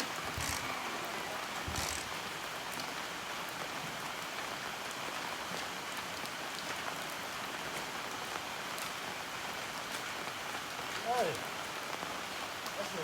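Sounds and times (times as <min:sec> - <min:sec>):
rain on a hard surface: 0:00.0 - 0:13.0.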